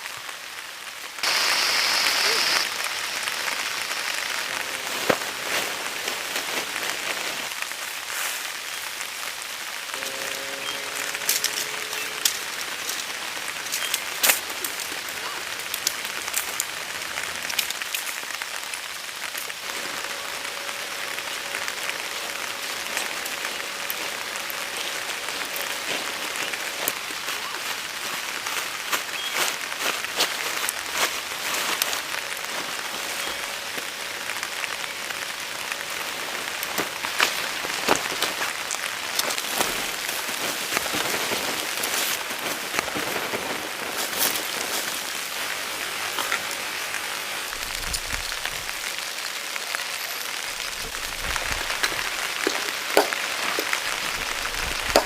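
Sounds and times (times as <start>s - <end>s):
raindrops ticking close by: 0.0s - 55.0s
steady rain hiss: 0.0s - 55.0s.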